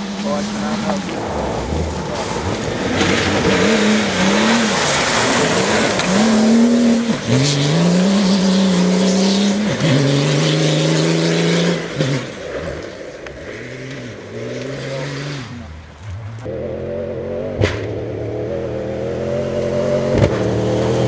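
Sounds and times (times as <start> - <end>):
car engine accelerating through gears: 0.0 - 12.8, 13.4 - 21.0.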